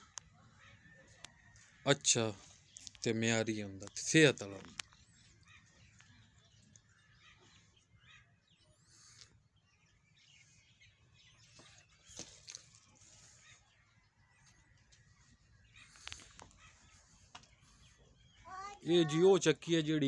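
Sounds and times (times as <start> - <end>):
faint bird chirps: 0.0 - 19.7.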